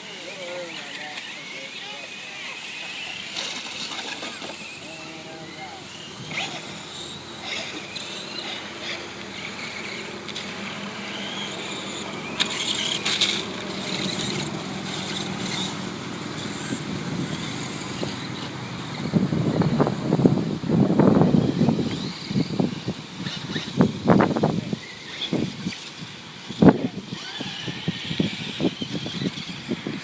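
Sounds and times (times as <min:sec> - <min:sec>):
rc truck motor whining: 0:00.0 - 0:30.0
loud rough rush of noise: 0:02.1 - 0:30.0.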